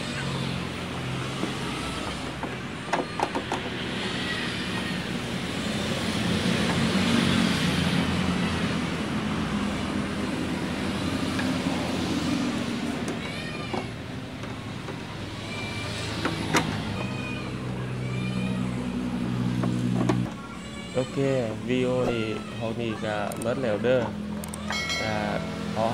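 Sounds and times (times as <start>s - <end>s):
road traffic noise: 0.0s - 25.9s.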